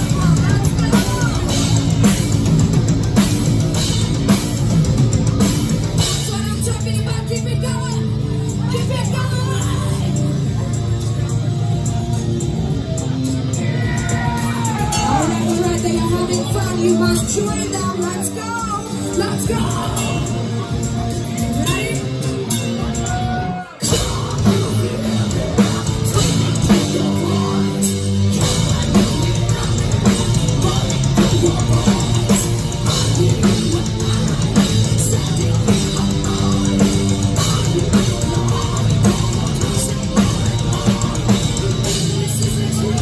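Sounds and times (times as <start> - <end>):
heavy metal band playing: 0.0 - 43.0.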